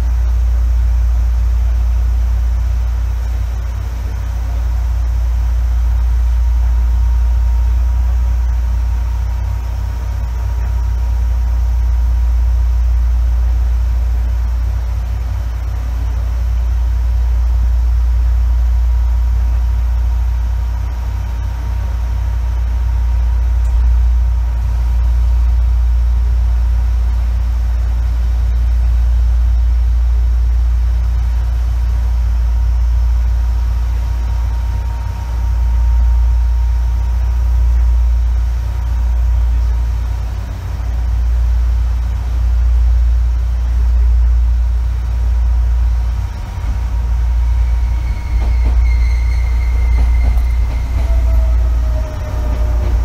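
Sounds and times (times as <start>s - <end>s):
deep train rumble: 0.0s - 53.0s
thin high whine: 0.0s - 53.0s.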